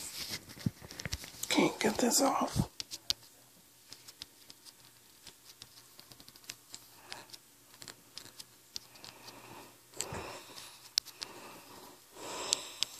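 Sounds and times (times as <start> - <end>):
soft rustle: 0.0 - 12.0.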